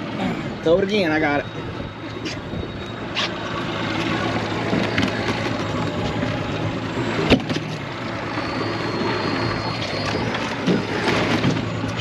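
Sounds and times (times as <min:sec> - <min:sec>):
wind: 0:00.0 - 0:12.0
boat engine idling: 0:00.2 - 0:12.0.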